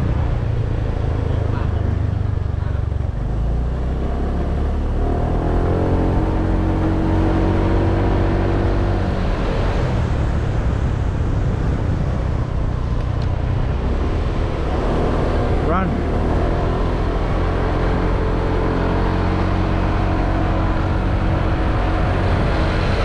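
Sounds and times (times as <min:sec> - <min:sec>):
wind rush on microphone: 0:00.0 - 0:23.0.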